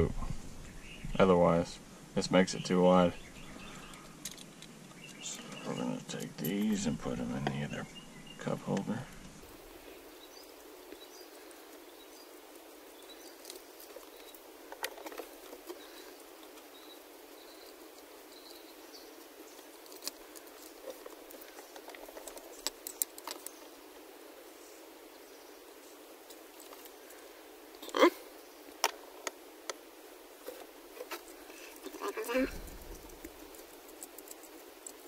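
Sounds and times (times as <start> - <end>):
steady low hiss: 0.0 - 35.0.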